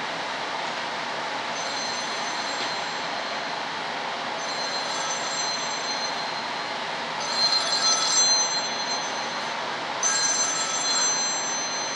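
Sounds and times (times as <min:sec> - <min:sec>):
machine hiss and high whine: 0:00.0 - 0:11.9.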